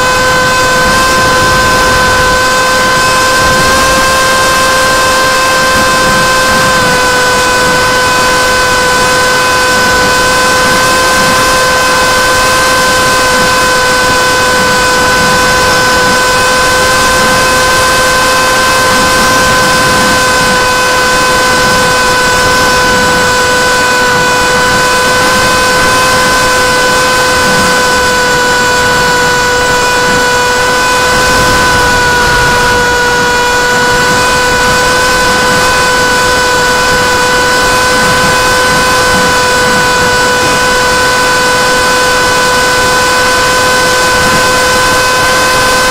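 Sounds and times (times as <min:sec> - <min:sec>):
electric motor and propeller whining: 0:00.0 - 0:45.9
rushing air: 0:00.0 - 0:45.9.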